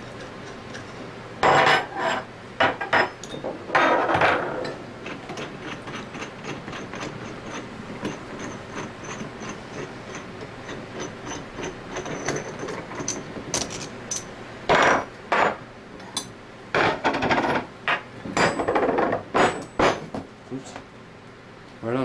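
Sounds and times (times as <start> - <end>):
metal parts knocking and scraping: 0.1 - 20.1.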